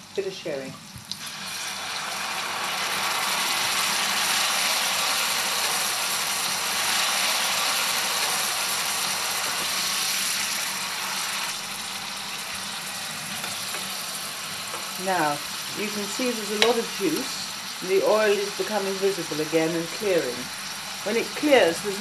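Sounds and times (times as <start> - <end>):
liquid sizzling in a hot frying pan: 0.1 - 22.0.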